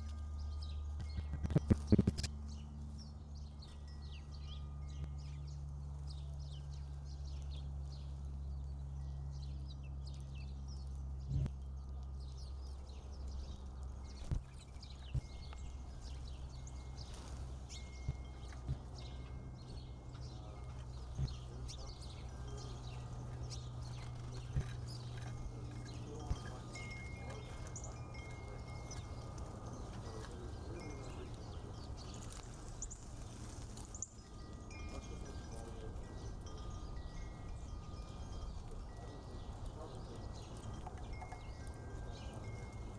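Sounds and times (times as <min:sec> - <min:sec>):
low wind rumble: 0:00.0 - 0:42.9
small birds chirping: 0:00.0 - 0:42.9
steady low hum: 0:00.0 - 0:42.9
wind chimes ringing: 0:00.0 - 0:42.9.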